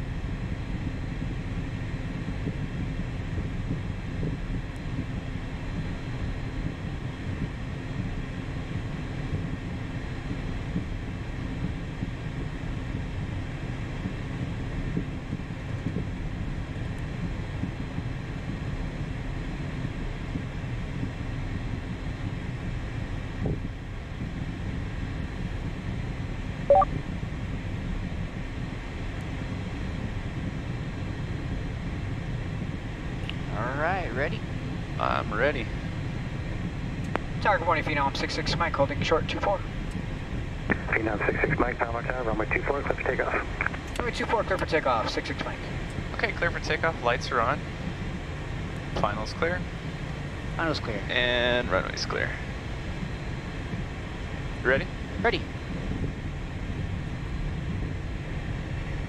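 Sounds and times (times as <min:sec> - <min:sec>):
jet engines taxiing rumble: 0:00.0 - 0:59.0.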